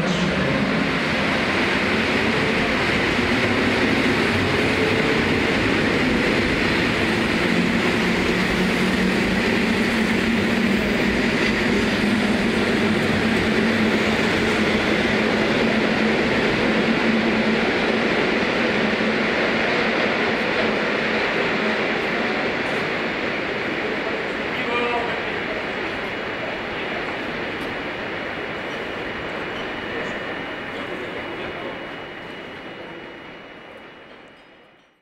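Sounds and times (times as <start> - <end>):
electric train passing: 0.0 - 34.9
rail noise: 0.0 - 35.0.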